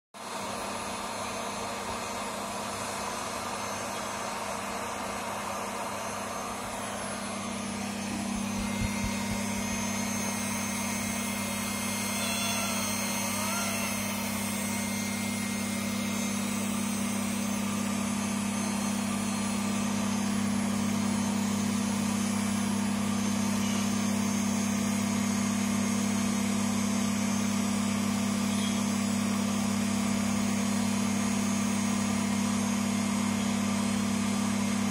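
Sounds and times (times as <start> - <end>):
electric machine humming: 0.2 - 34.9.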